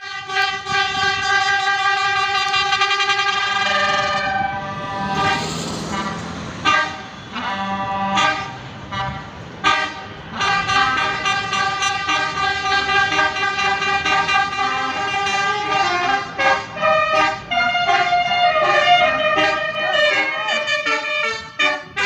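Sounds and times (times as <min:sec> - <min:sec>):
musical air horn blasts: 0:00.0 - 0:22.0.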